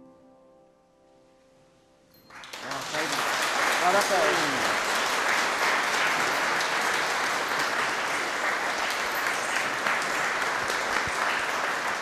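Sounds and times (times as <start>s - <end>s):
audience applauding in reverberant hall: 2.2s - 12.0s.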